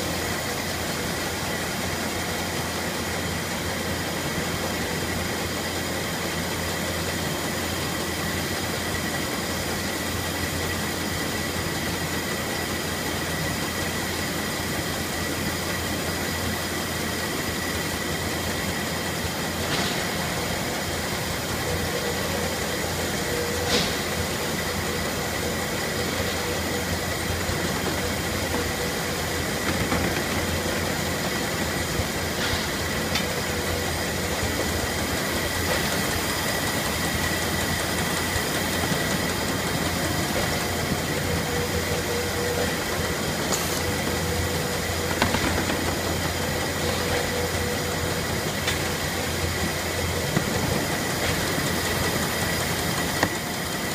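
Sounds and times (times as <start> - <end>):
conveyors running with mechanical hum: 0.0 - 53.9.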